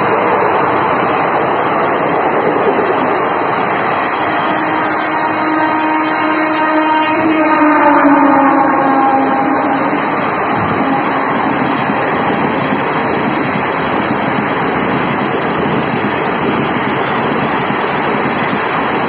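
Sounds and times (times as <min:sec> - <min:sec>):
trains passing at high speed: 0:00.0 - 0:19.0.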